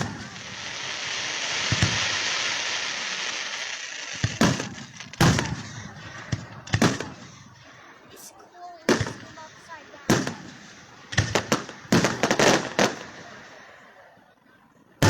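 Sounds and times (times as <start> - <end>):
firework shells booming: 0.0 - 8.2, 8.8 - 13.9
firework hiss: 0.0 - 13.6.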